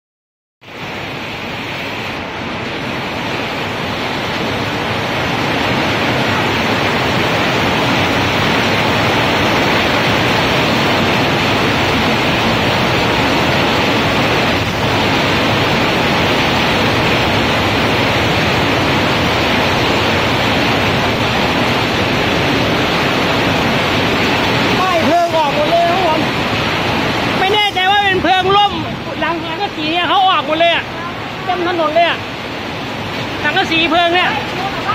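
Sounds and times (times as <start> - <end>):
heavy rain pouring: 0.6 - 34.9
wind: 0.6 - 34.9.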